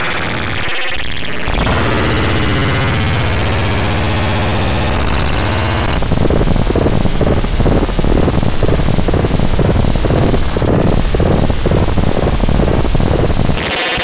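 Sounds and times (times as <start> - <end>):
buzzing electronic drone: 0.0 - 14.0.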